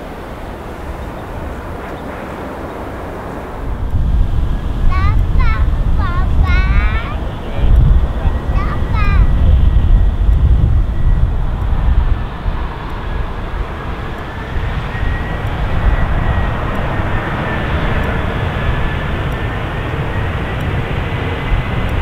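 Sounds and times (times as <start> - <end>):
airplane engines rumbling: 0.0 - 22.0
high engine whine: 0.0 - 22.0.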